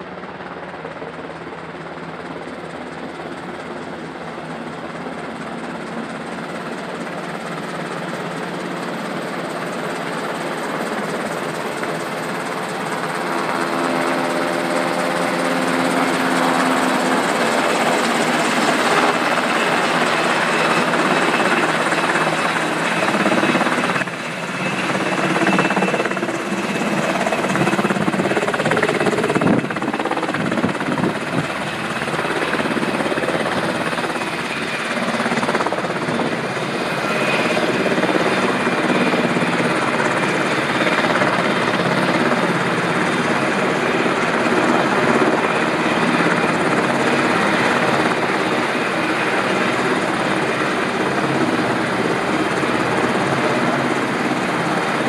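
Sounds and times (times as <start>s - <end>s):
helicopter rotors and engines: 0.0s - 55.0s.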